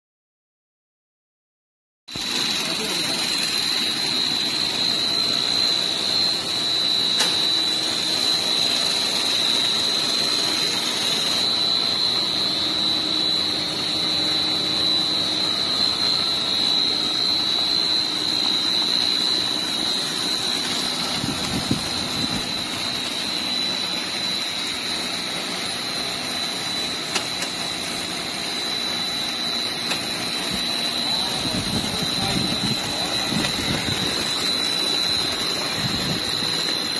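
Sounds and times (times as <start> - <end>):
extruder machine noise: 2.1 - 36.9
high-pitched machine whine: 2.1 - 36.9.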